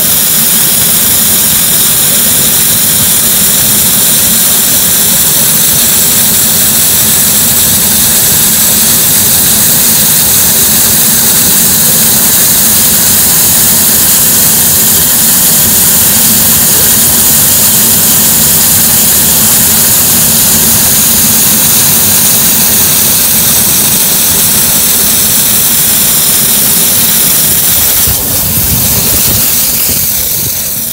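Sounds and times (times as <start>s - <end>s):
steam hissing from safety valves: 0.0s - 30.9s.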